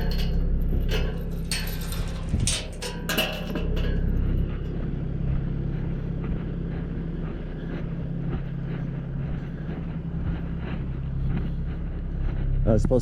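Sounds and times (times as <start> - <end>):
faint rattles and clicks: 0.0 - 13.0
vehicle engine droning: 0.0 - 13.0.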